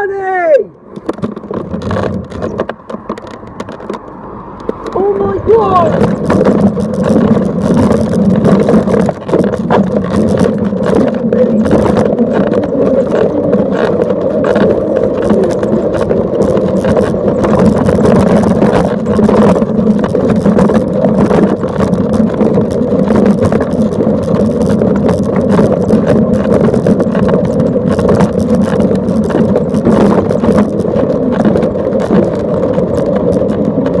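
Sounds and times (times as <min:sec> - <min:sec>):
road noise: 0:00.0 - 0:34.0
car engine drone from inside: 0:00.7 - 0:34.0.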